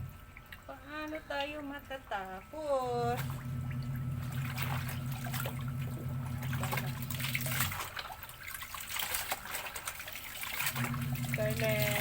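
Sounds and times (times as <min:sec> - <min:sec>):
low machine hum: 0:00.0 - 0:12.0
water splashing and trickling: 0:00.0 - 0:12.0.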